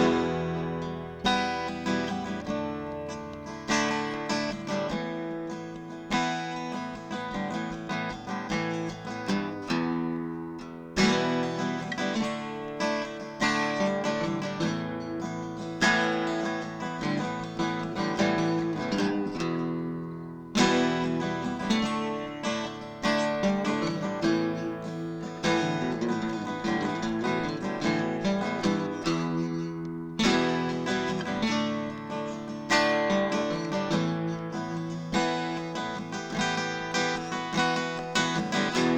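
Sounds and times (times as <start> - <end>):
acoustic guitar music: 0.0 - 38.9.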